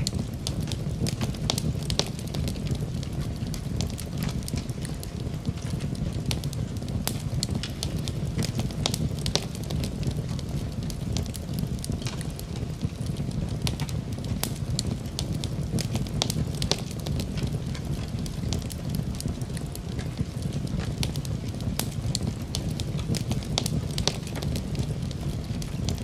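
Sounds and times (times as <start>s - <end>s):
low rumble: 0.0s - 26.0s
wood fire crackling: 0.0s - 26.0s.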